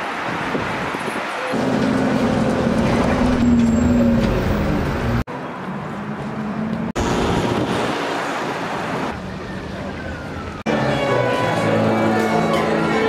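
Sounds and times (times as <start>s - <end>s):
road noise: 0.0s - 13.0s
street traffic noise: 0.0s - 13.0s
bus engine hum: 0.8s - 13.0s.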